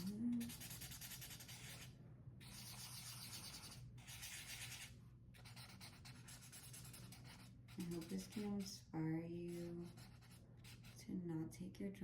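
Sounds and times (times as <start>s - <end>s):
marker scratching on paper: 0.0s - 8.7s, 9.5s - 11.0s.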